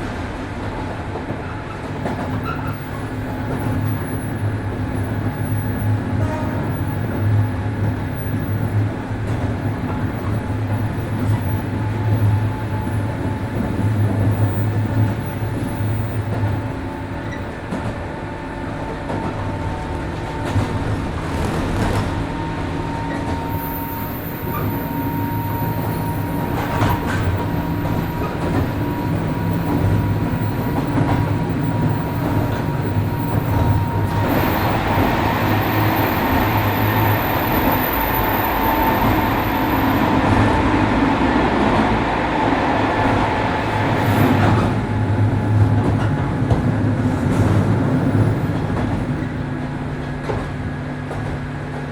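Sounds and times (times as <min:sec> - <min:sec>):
train motors and wheels on rail: 0:00.0 - 0:51.9.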